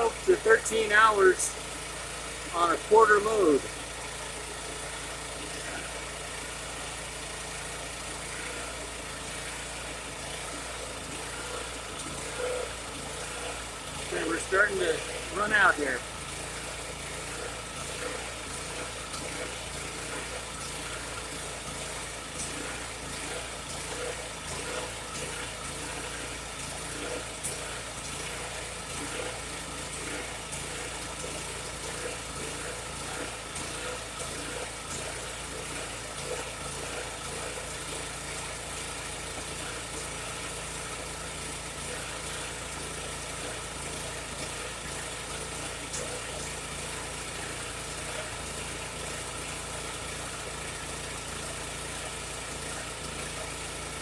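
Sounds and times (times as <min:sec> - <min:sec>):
generator running: 0:00.0 - 0:54.0.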